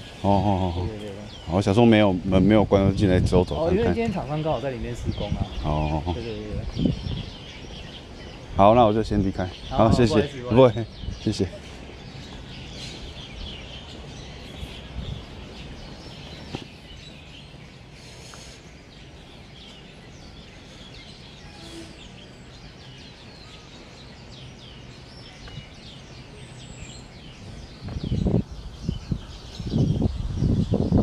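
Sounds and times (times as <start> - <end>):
low outdoor background: 0.0 - 31.0
small birds chirping: 0.0 - 31.0.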